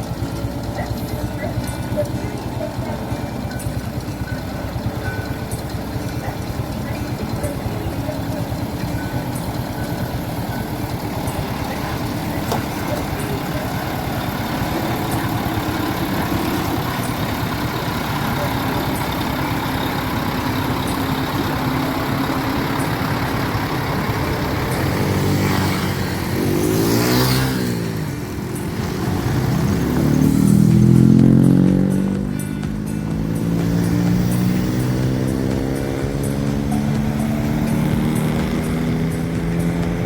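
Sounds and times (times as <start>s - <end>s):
deep loud engine: 0.0s - 40.0s
engine revving: 0.0s - 40.0s
vehicle engines running: 0.0s - 40.0s.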